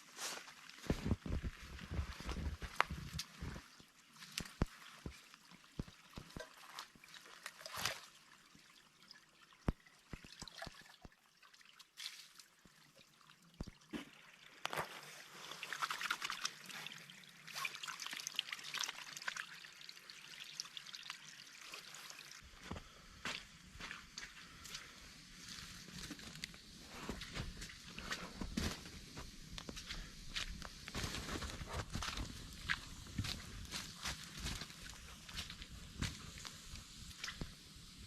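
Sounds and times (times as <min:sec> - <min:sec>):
liquid trickling and pouring: 0:00.6 - 0:28.9, 0:29.5 - 0:38.0.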